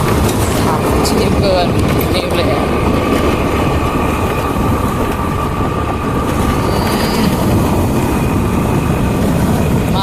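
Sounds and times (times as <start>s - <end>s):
vehicle road noise rumble: 0.0s - 10.0s.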